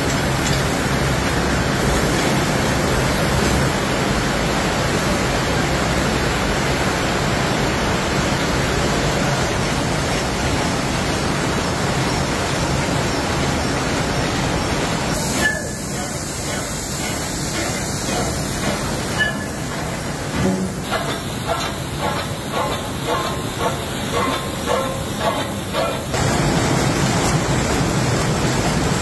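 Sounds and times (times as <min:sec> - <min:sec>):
mill machinery running: 0:00.0 - 0:29.0.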